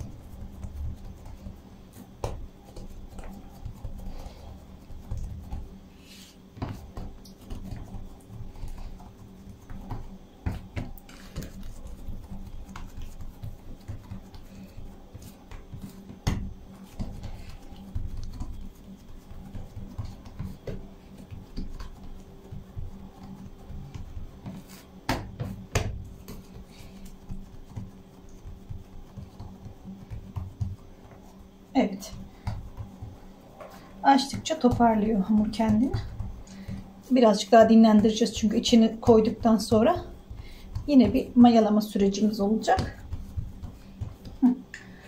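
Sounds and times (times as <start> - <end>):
faint hum: 0.0 - 45.0
fingers patting dough: 0.0 - 45.0.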